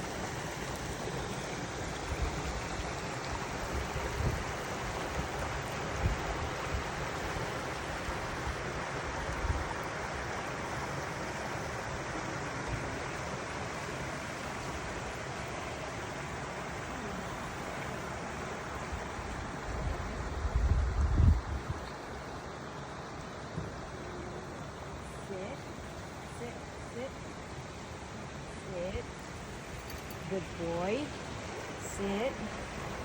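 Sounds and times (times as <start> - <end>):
waterfall rushing: 0.0 - 20.3, 22.0 - 33.0.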